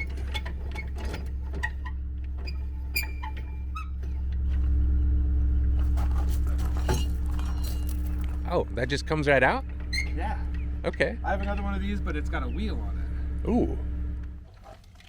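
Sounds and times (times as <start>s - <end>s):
jack squeaking: 0.0s - 4.9s, 5.6s - 14.5s
low hum: 0.0s - 15.0s.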